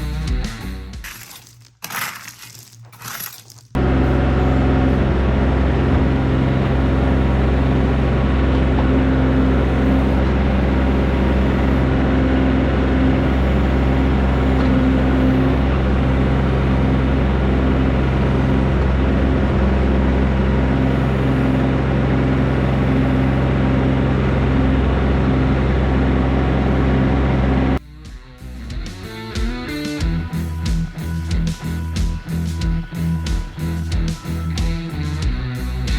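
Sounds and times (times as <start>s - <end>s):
tractor diesel engine running: 3.7s - 35.9s.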